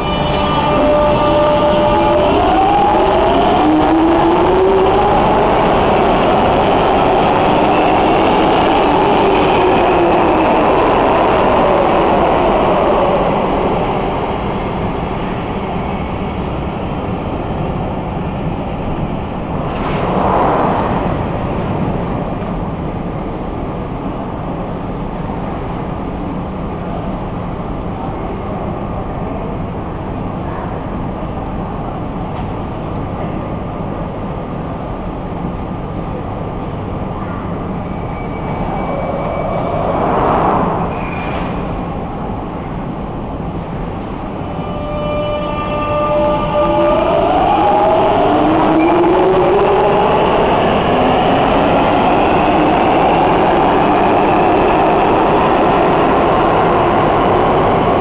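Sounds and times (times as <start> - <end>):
train steady hum: 0.0 - 58.0.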